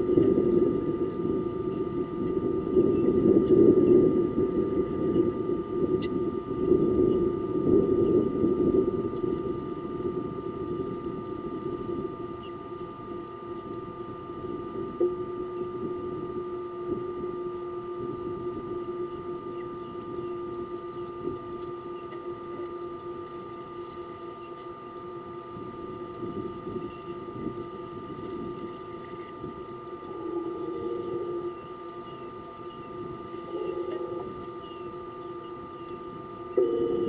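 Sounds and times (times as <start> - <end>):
steady pitched hum: 0.0 - 37.0.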